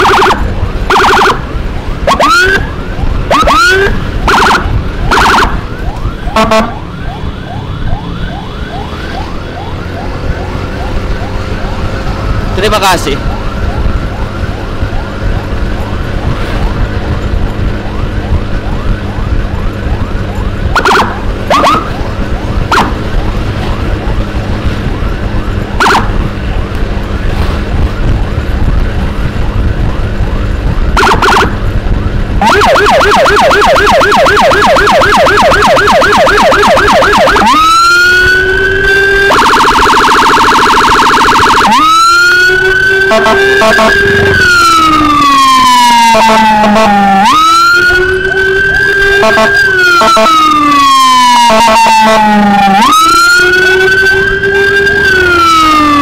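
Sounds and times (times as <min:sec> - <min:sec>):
electronic emergency siren: 0:00.0 - 0:56.0
road and engine noise: 0:00.0 - 0:56.0.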